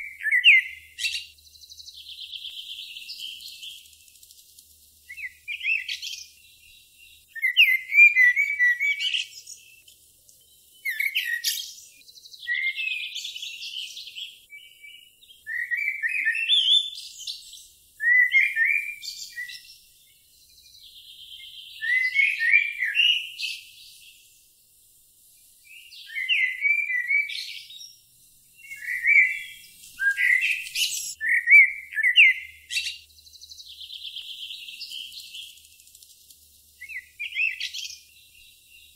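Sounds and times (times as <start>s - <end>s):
buzzy bird trill: 0.0s - 10.0s, 10.7s - 24.2s, 25.6s - 38.9s
songbird chirping phrases: 0.0s - 38.9s.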